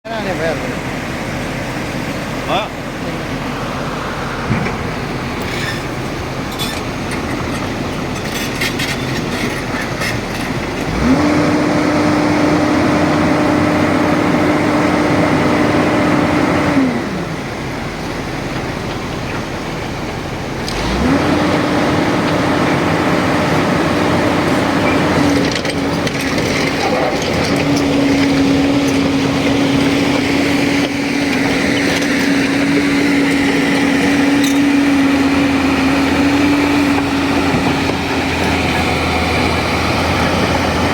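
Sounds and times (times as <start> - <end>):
excavator diesel engine revving: 0.0 - 40.9
hydraulics running: 0.0 - 40.9.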